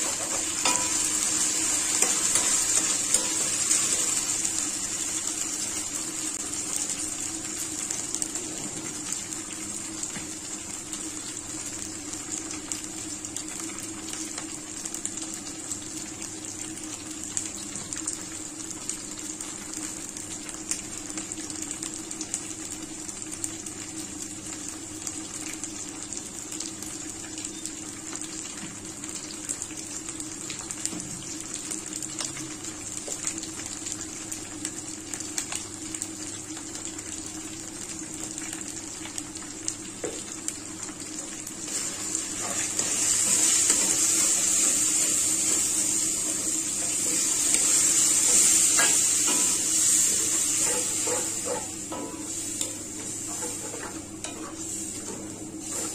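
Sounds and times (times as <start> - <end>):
food frying in oil: 0.0 - 55.9.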